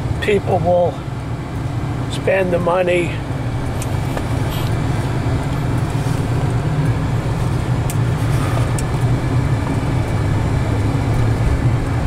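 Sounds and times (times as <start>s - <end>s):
car interior driving drone: 0.0s - 12.0s.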